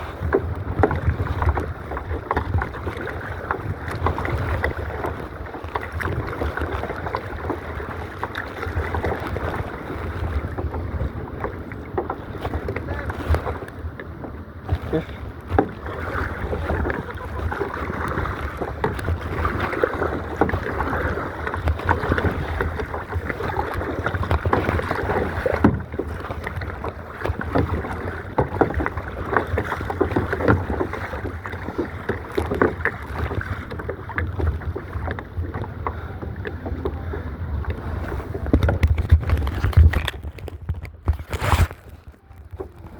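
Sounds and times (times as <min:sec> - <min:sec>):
water splashing around a kayak: 0:00.0 - 0:42.9
wind rumbling on microphone: 0:00.0 - 0:42.9.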